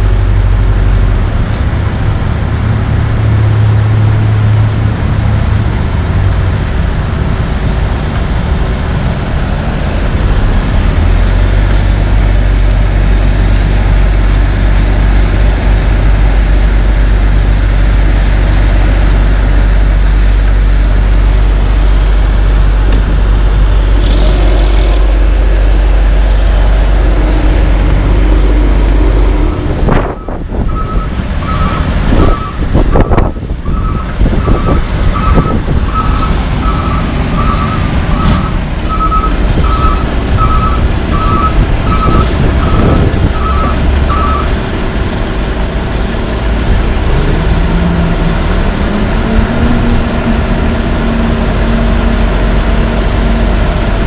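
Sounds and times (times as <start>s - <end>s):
heavy diesel engines rumbling: 0.0s - 54.0s.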